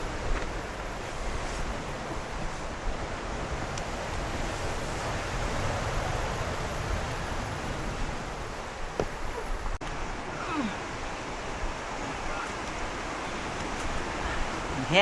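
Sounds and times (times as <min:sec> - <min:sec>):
surf rushing: 0:00.0 - 0:15.0
wind rumble on microphone: 0:00.0 - 0:15.0.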